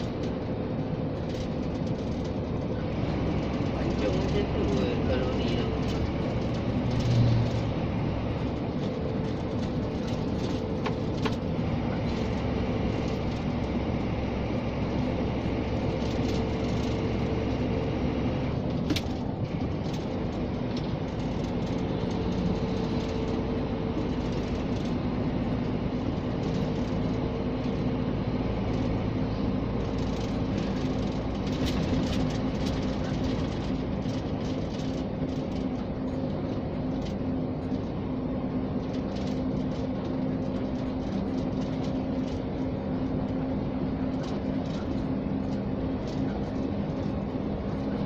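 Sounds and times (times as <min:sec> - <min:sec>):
road noise: 0:00.0 - 0:48.0
truck diesel engine drone: 0:00.0 - 0:48.0.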